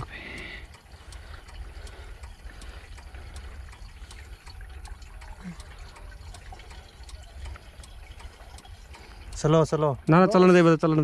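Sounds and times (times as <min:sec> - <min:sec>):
fuel trickling and dripping: 0:00.0 - 0:11.0.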